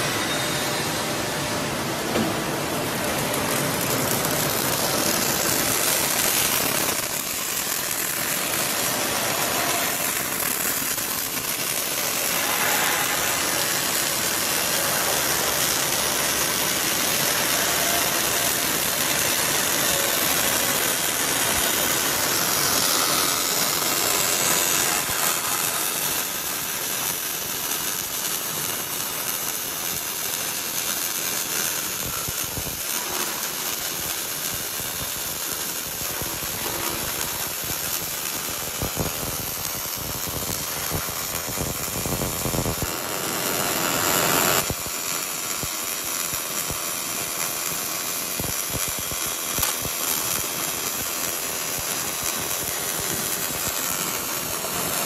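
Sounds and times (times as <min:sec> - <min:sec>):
welding arc hissing: 0:00.0 - 0:55.0.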